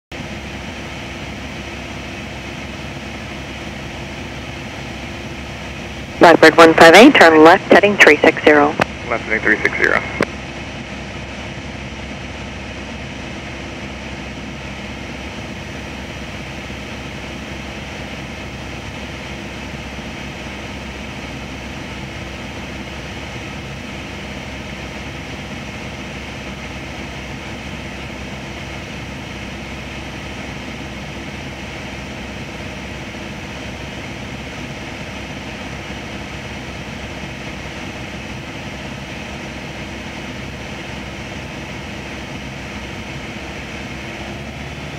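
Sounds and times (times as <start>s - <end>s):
airplane engine drone in cabin: 0.1s - 44.9s.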